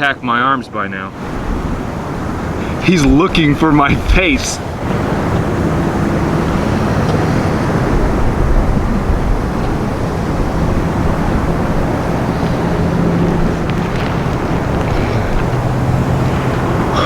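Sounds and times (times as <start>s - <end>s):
low engine drone: 1.3s - 17.0s.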